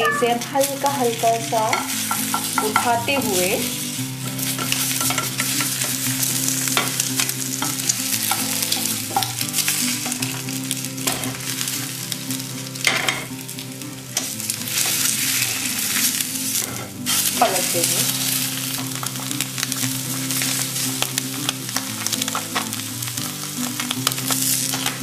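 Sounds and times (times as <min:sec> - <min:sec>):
omelette sizzling in frying pan: 0:00.0 - 0:25.0
spatula scraping and tapping pan: 0:00.5 - 0:25.0.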